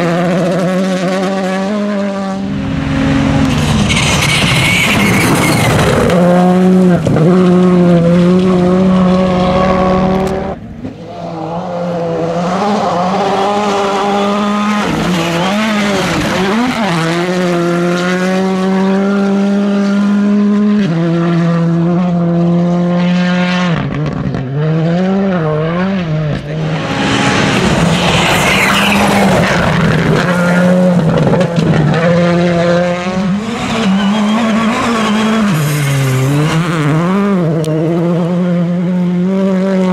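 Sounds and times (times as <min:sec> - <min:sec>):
rally car engines revving high: 0:00.0 - 0:39.9.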